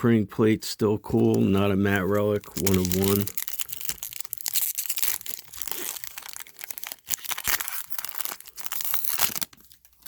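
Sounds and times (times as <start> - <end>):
wrapper crinkling and tearing: 1.2 - 10.0.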